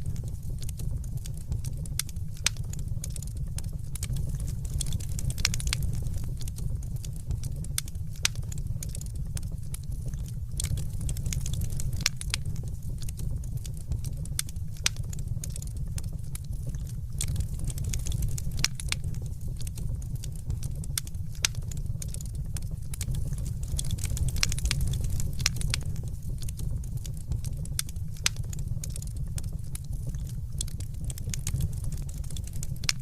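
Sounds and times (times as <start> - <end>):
fire crackling and popping: 0.0 - 33.0
steady low rumble: 0.0 - 33.0.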